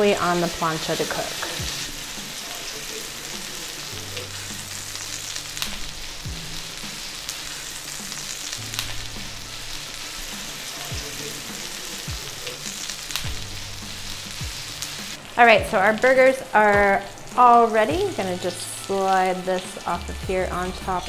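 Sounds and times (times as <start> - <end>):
meat sizzling on a griddle: 0.0 - 21.0.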